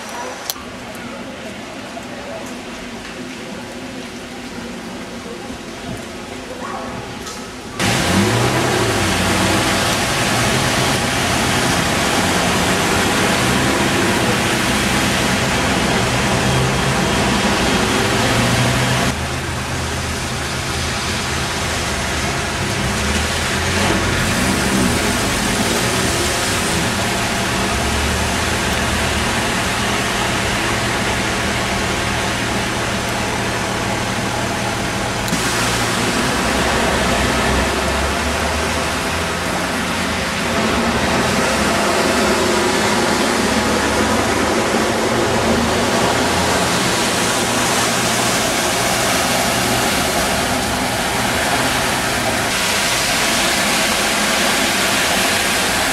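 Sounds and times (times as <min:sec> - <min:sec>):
floodwater rushing: 0:00.0 - 0:55.9
car engines running: 0:07.8 - 0:55.9
tyres splashing through water: 0:07.8 - 0:55.9.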